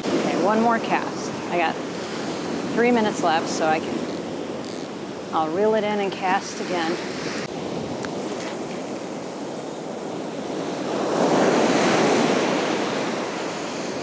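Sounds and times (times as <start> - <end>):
ocean surf breaking on beach: 0.0 - 14.0.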